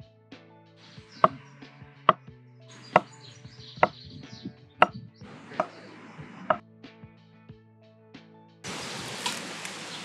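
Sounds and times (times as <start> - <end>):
soft background music: 0.0 - 9.4.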